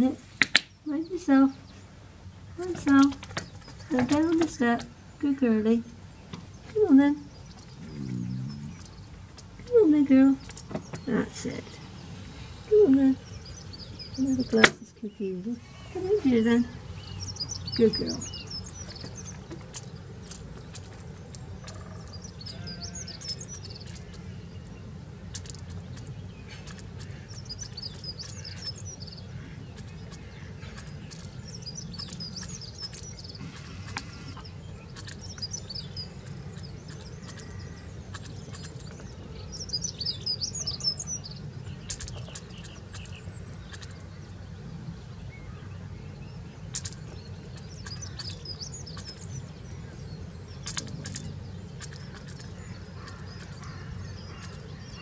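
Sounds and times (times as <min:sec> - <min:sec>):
low background rumble: 0:00.0 - 0:55.0
songbird warbling: 0:00.0 - 0:55.0
beak pecking in plastic bowl: 0:02.6 - 0:05.0, 0:05.8 - 0:11.8, 0:16.9 - 0:44.4, 0:46.6 - 0:55.0.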